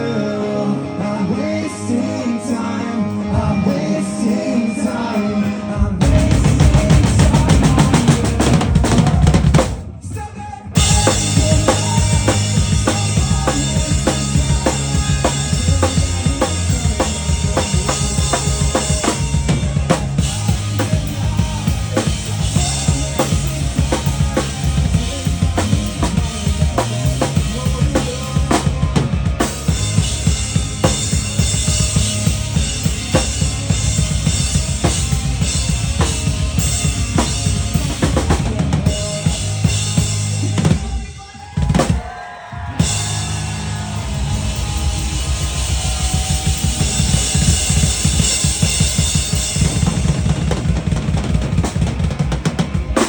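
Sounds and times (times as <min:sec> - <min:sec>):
bass and guitars: 0:00.0 - 0:53.0
rock drum kit beat: 0:06.0 - 0:09.9, 0:10.8 - 0:53.0.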